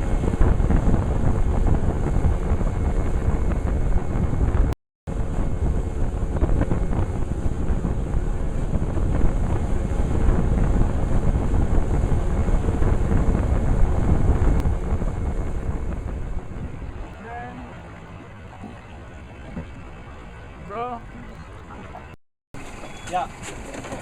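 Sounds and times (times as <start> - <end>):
boat engine drone: 0.0 - 24.0
water rushing past hull: 0.0 - 24.0
wind rumbling on microphone: 0.0 - 24.0.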